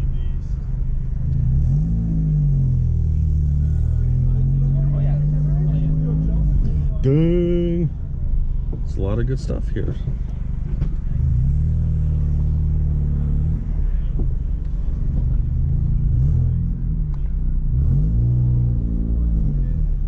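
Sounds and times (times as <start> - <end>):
car engine driven at low speed: 0.0 - 20.0.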